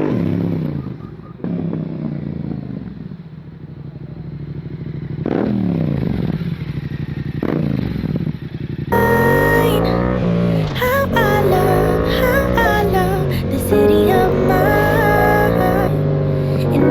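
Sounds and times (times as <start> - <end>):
motorcycle engine idling and revving: 0.0 - 16.9.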